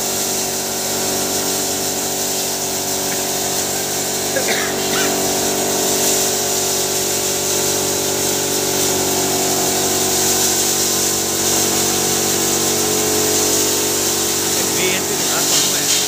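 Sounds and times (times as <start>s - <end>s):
grinding mill humming: 0.0s - 16.0s
high hiss of rushing air: 0.4s - 16.0s.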